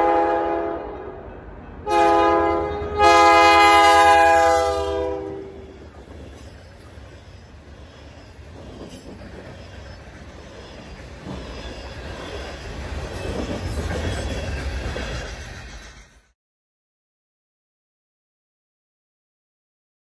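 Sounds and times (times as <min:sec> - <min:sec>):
freight train wheels rumbling on track: 0:00.0 - 0:16.4.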